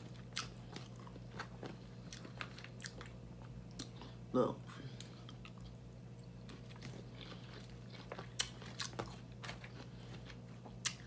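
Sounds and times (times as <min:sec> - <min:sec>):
chewing lettuce: 0:00.0 - 0:04.3, 0:04.9 - 0:11.0
faint low hum: 0:00.0 - 0:11.0.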